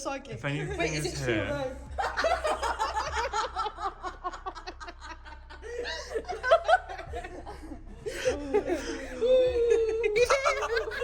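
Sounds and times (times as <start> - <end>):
young women giggling: 0.7 - 11.0.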